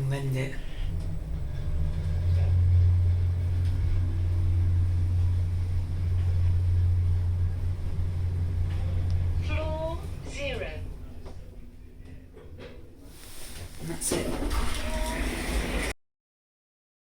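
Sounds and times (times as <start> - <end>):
lift hum: 0.0 - 16.0.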